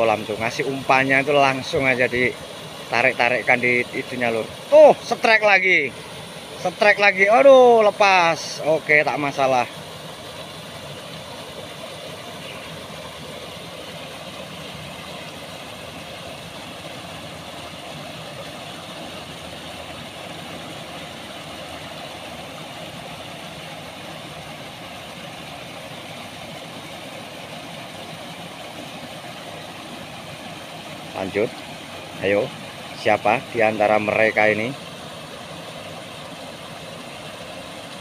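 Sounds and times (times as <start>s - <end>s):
water rushing over weir: 0.0s - 38.0s.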